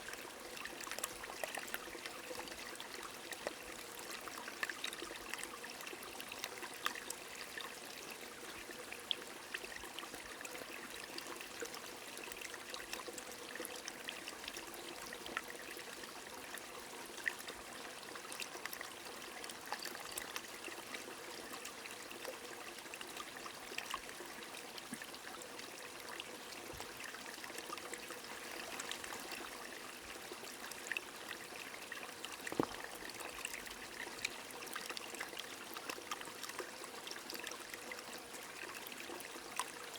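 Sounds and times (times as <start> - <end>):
gentle rain: 0.0 - 39.9
stream trickling: 0.0 - 39.9.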